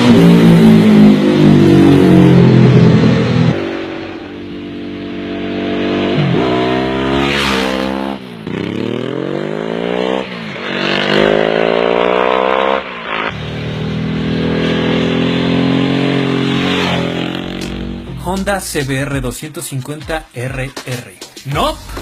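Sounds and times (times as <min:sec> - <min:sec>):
motorcycle engine accelerating: 0:00.0 - 0:18.5.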